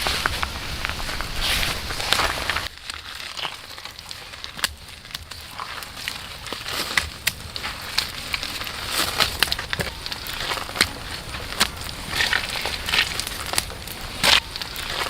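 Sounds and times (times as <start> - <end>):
dry twigs crunching and snapping: 0.0 - 15.0.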